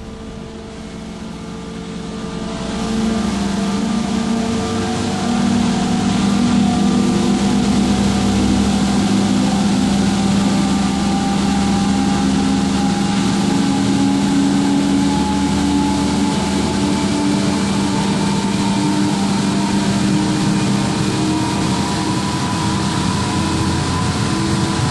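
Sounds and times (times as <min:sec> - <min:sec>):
ferry machinery humming: 0:00.0 - 0:24.9.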